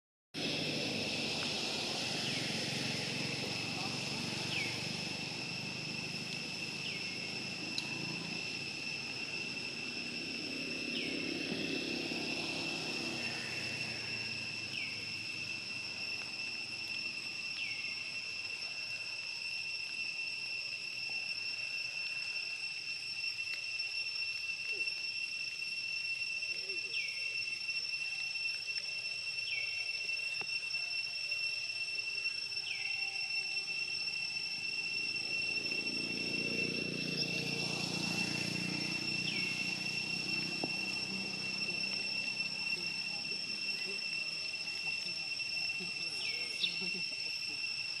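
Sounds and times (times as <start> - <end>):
high-pitched insect trill: 0.4 - 48.0.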